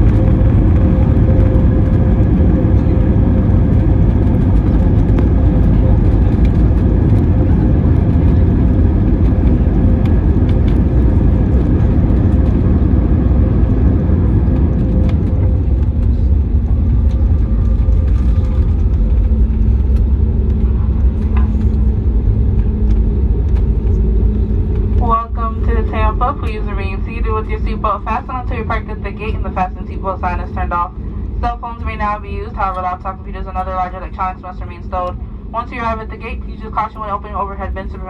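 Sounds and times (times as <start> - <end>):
airplane cabin low rumble: 0.0 - 38.0.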